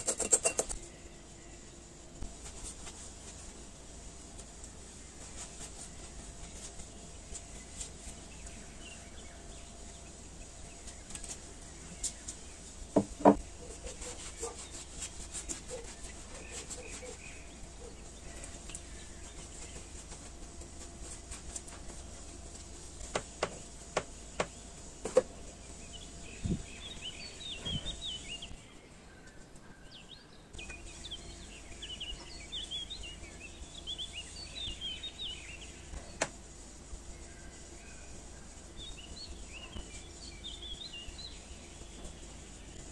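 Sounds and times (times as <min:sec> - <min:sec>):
faint birds chirping: 0:00.0 - 0:42.9.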